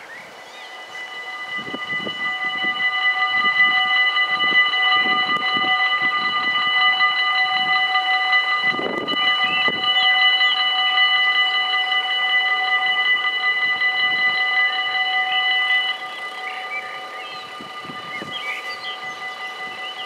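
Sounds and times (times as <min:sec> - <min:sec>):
level crossing warning bells: 0:00.7 - 0:20.0.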